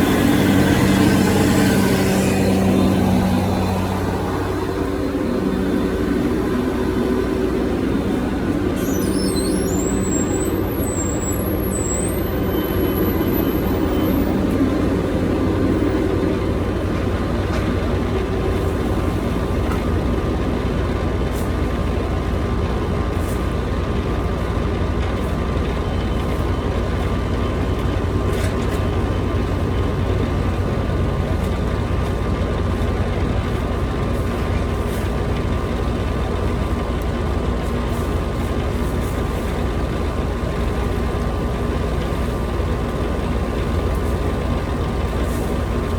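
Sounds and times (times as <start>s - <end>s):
heavy equipment engine rumbling: 0.0s - 45.9s.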